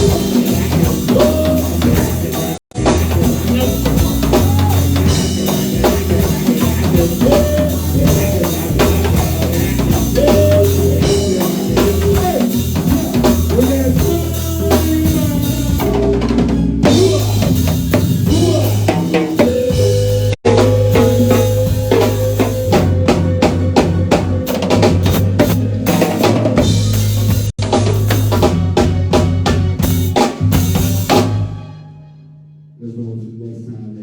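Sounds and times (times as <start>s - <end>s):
drum kit beat: 0.0s - 31.6s
bass line: 0.0s - 32.8s
pitch-bending lead melody: 0.0s - 32.8s.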